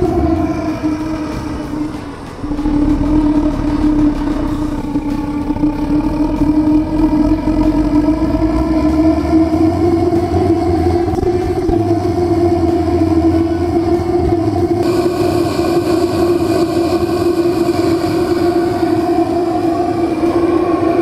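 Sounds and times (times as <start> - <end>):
gas burner roaring with hum: 0.0 - 21.0.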